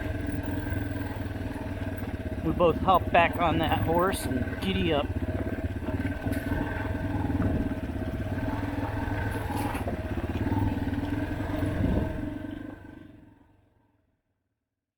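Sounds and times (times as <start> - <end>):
dirt bike engine running: 0.0 - 13.6.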